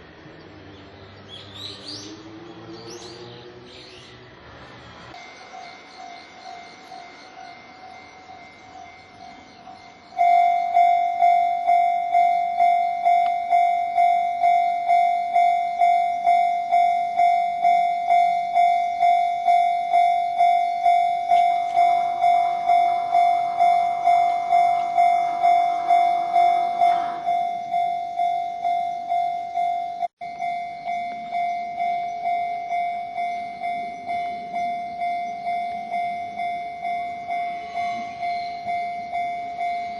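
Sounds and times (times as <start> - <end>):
electric train passing: 0.0 - 39.9
level-crossing warning bell: 5.1 - 39.9.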